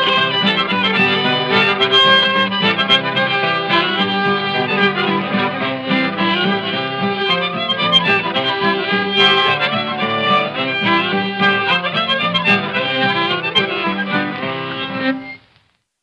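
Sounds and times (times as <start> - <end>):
old-time country instrumental: 0.0 - 15.4.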